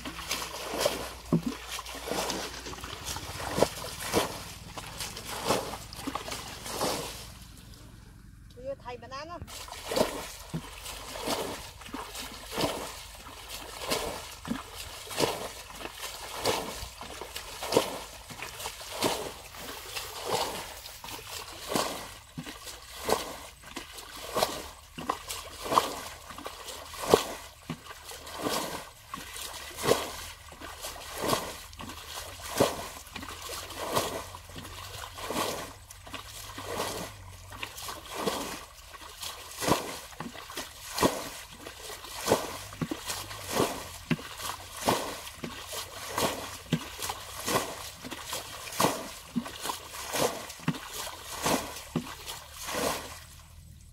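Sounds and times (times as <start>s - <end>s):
bucket scooping and splashing water: 0.0s - 8.0s, 9.4s - 53.9s.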